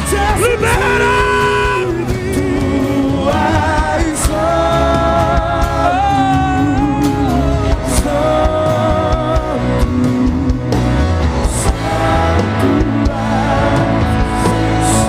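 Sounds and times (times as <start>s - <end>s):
guitar: 0.0s - 15.0s
sustained singing: 0.0s - 15.0s
worship band music: 0.0s - 15.0s.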